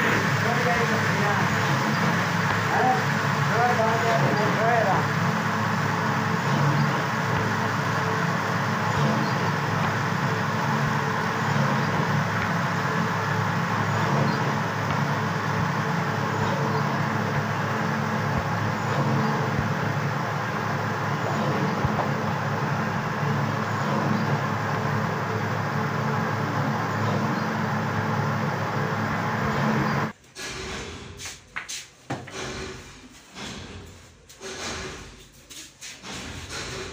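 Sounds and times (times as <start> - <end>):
rushing noise: 0.0 - 30.1
machinery low hum: 0.0 - 31.2.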